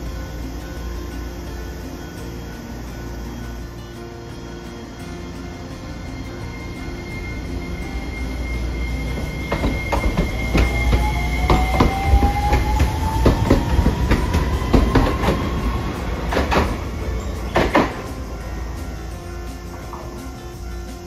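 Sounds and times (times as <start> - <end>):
tram motor whine: 0.0 - 21.0
wheels clacking over rails: 0.0 - 21.0.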